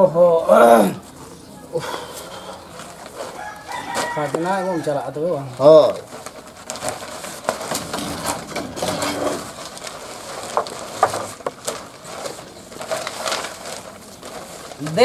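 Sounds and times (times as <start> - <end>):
plastic bag rustling and crinkling: 2.6 - 15.0.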